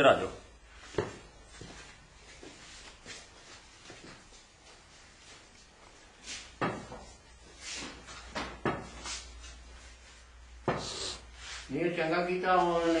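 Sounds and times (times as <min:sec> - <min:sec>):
soft scuffs and rustles: 0:00.2 - 0:13.0.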